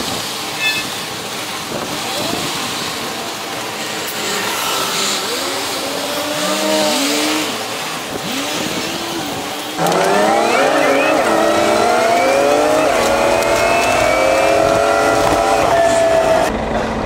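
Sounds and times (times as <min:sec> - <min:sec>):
buses accelerating away: 0:00.0 - 0:17.0
steady traffic noise: 0:00.0 - 0:17.0.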